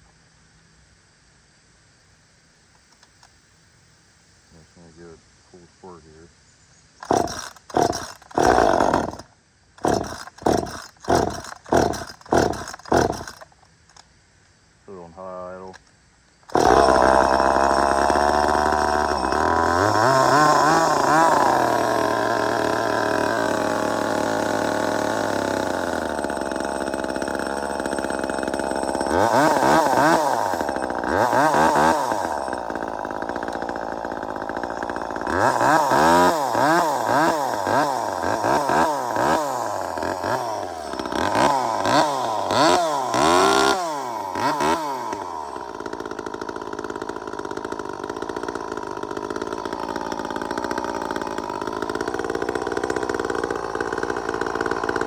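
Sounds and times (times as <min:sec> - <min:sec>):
chainsaw engine revving: 0:07.0 - 0:14.0, 0:14.9 - 0:15.8, 0:16.4 - 0:55.0.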